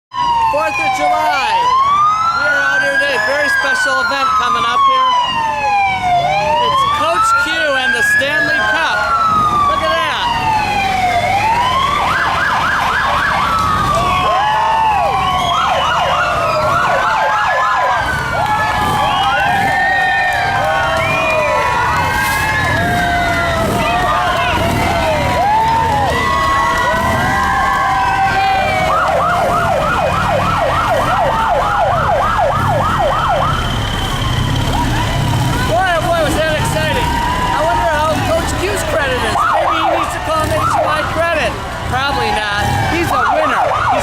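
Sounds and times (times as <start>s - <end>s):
emergency vehicle sirens wailing: 0.1s - 44.0s.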